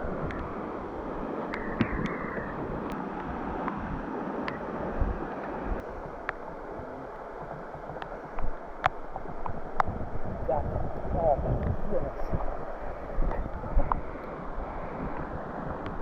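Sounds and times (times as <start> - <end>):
river water rushing: 0.0 - 16.0
wind on microphone: 0.0 - 16.0.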